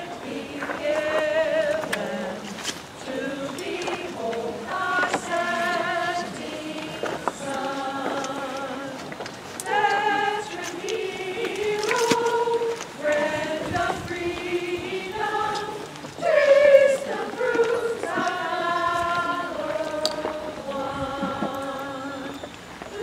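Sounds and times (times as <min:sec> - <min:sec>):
choir singing long held notes: 0:00.0 - 0:23.0.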